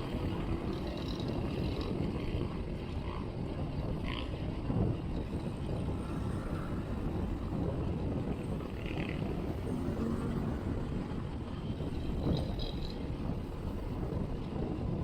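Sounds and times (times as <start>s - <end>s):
tyre and road noise: 0.0s - 15.0s
wind on microphone: 0.0s - 15.0s.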